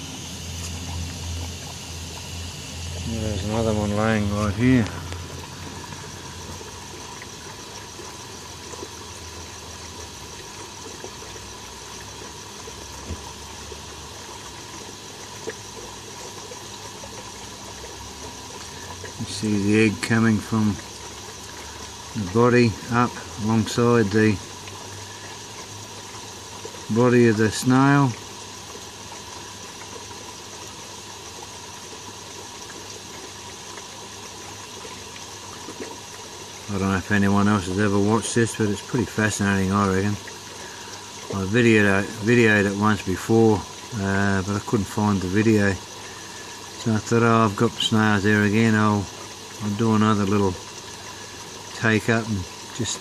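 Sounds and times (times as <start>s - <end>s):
water pump humming: 0.0s - 53.0s
water running and bubbling: 0.0s - 53.0s.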